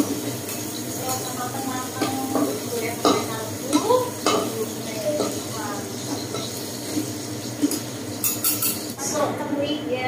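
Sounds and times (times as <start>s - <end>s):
utensils knocking and scraping wok: 0.0s - 9.0s
hot oil sizzling in a wok: 0.0s - 9.5s.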